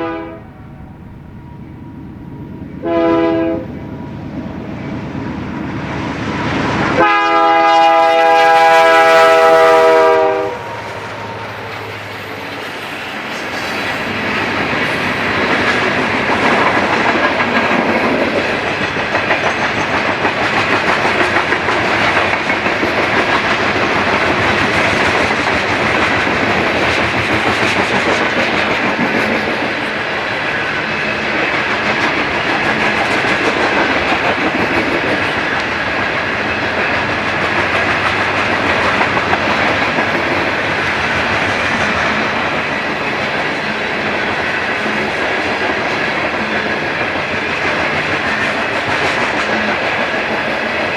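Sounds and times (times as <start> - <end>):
freight train wheels clattering: 3.6 - 50.9.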